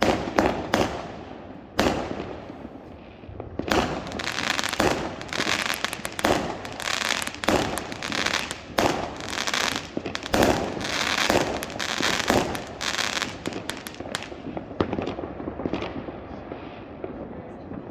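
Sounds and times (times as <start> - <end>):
fireworks fizzing crackle: 0.0 - 16.0
fireworks bangs: 0.0 - 16.2.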